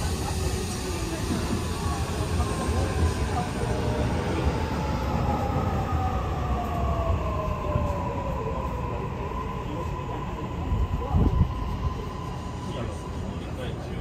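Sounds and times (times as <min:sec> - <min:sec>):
rumble of train wheels: 0:00.0 - 0:14.0.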